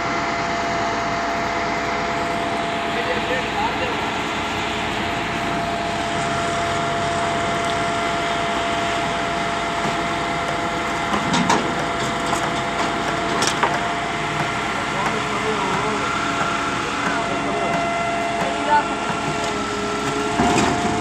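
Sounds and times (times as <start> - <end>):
concrete pump engine drone: 0.0 - 21.0
constant whine: 0.0 - 21.0.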